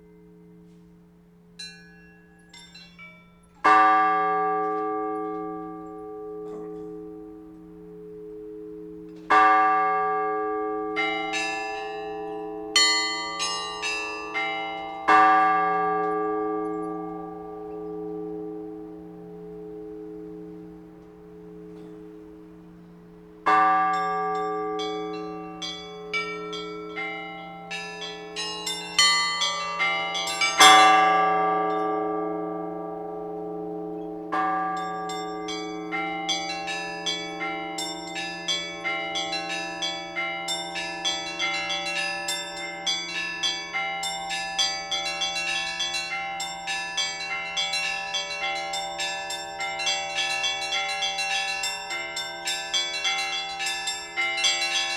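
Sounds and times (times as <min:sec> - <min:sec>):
large bell low hum: 0:00.0 - 0:54.9
small bells chiming: 0:01.6 - 0:07.6, 0:09.2 - 0:54.9.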